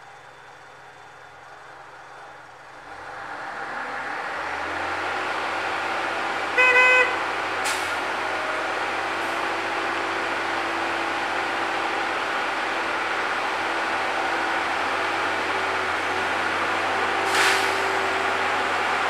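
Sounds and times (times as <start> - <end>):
railway machine engine running: 0.0 - 19.0.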